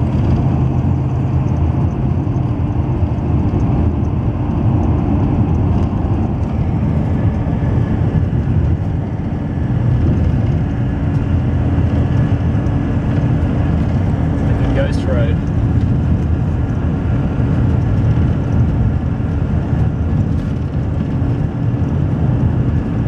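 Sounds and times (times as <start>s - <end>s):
car cabin driving rumble: 0.0s - 23.0s.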